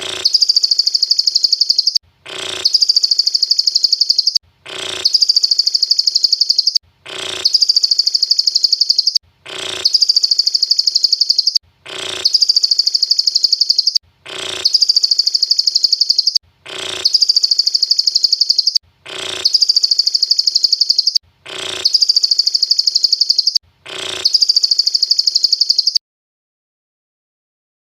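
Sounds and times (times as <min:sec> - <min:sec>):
bird trilling song: 0:00.1 - 0:26.0.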